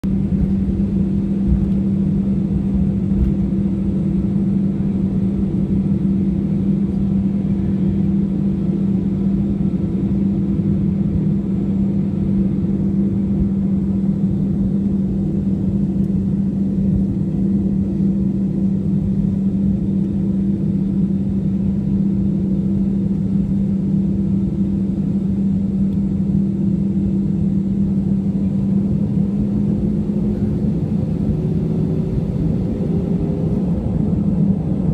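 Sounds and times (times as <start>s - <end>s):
jet engines idling: 0.0s - 34.9s.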